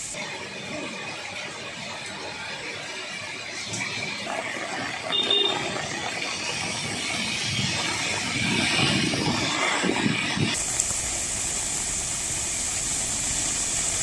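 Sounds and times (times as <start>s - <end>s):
heavy rain hissing: 0.0s - 14.0s
vehicles passing on wet road: 0.0s - 14.0s.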